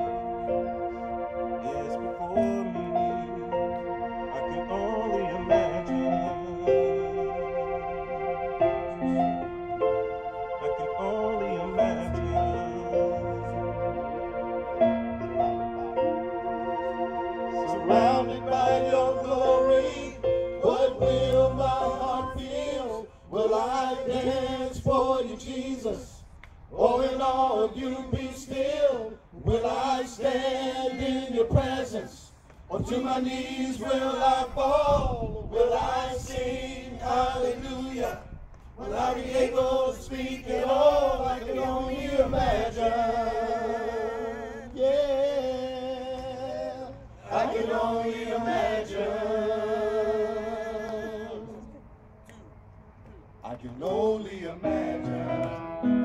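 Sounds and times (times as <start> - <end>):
gospel singing: 0.0 - 51.9, 53.4 - 56.0.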